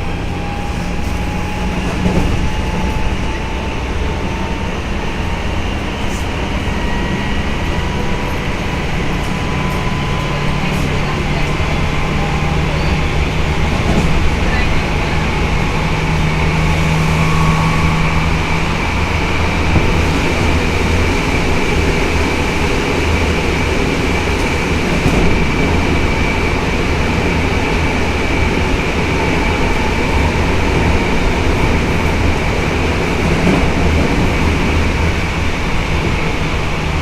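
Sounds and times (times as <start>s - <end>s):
rumble of wheels on rail: 0.0s - 37.0s.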